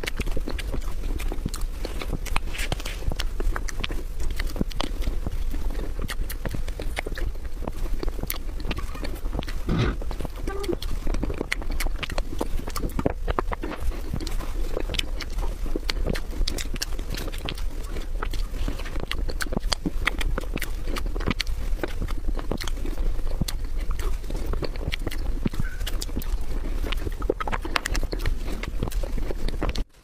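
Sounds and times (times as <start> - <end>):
wet chewing and lip smacking: 0.0 - 30.0.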